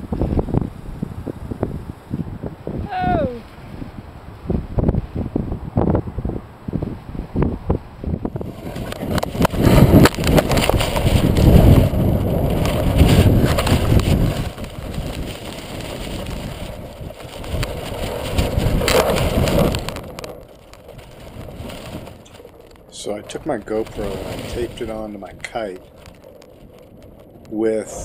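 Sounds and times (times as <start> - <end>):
gusty wind buffeting microphone: 0.0 - 28.0.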